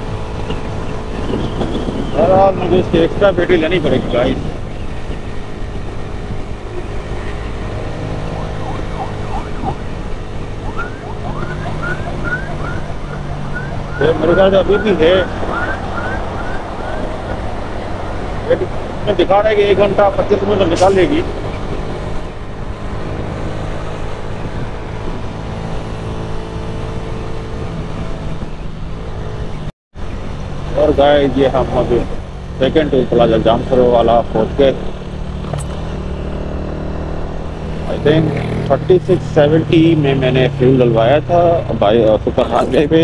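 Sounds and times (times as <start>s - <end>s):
motorcycle engine cruising: 0.0s - 43.0s
wind and road noise: 0.0s - 43.0s.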